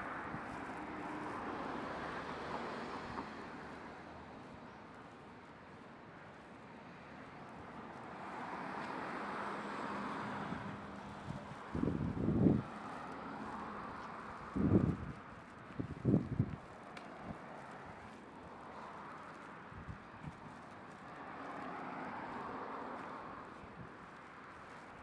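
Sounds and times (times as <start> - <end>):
vehicles passing by: 0.0 - 25.0.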